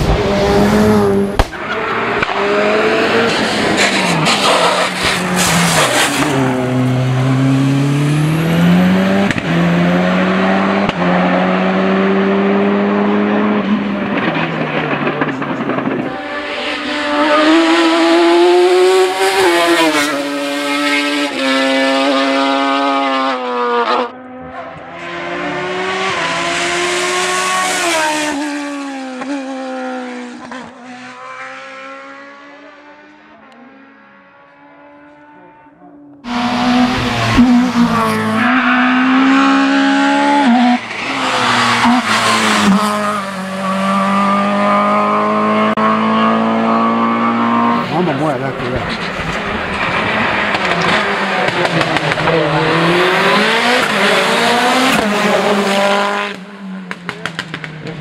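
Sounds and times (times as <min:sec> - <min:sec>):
higher-pitched race car engine: 0:00.0 - 0:58.0
race car engine revving: 0:00.0 - 0:58.0.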